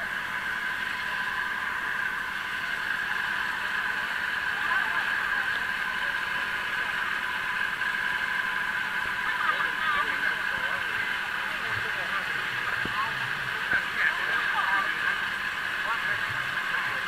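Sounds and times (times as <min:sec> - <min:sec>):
steady drone: 0:00.0 - 0:17.0
faint crowd voices: 0:00.9 - 0:17.0.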